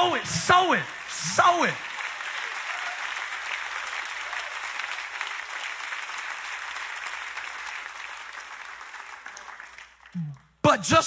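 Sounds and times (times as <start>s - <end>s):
congregation applauding: 0.0s - 10.4s.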